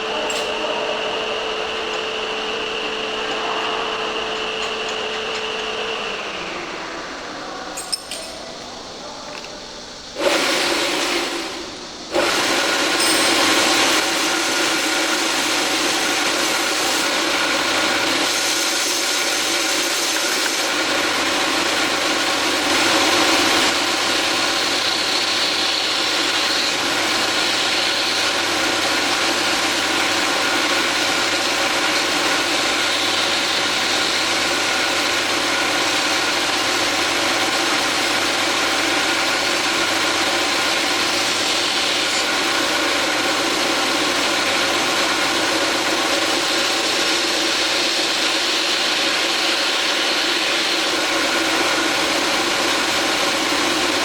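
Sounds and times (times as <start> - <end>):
sander motor humming: 0.0 - 7.6, 10.0 - 54.0.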